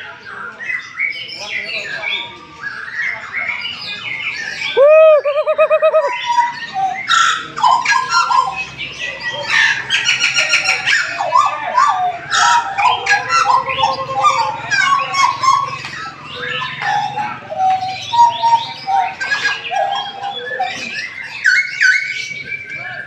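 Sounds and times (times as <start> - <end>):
bird chirps trills and calls: 0.0 - 23.0
birds whistling: 0.0 - 23.0.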